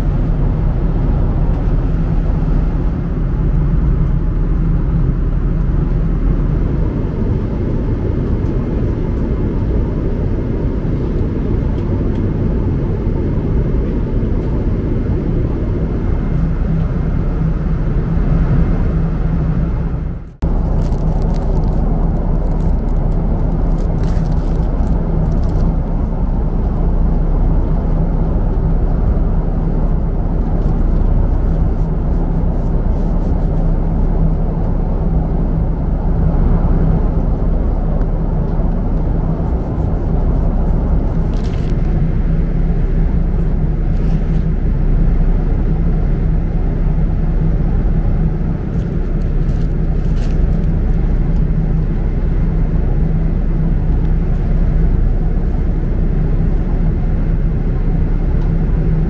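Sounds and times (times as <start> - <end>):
jet airliner cabin noise: 0.0 - 59.0.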